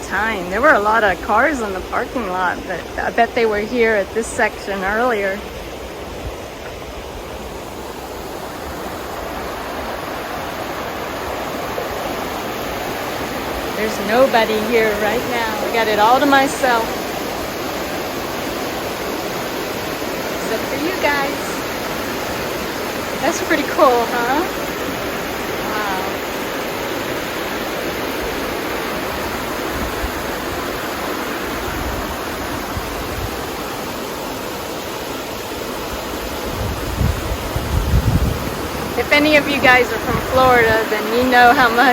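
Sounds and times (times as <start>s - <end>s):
river rapids rushing over rocks: 0.0s - 41.9s.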